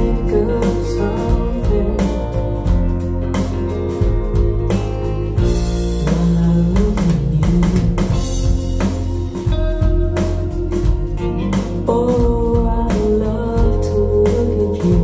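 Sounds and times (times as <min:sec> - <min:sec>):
pop-soul song through speakers: 0:00.0 - 0:15.0.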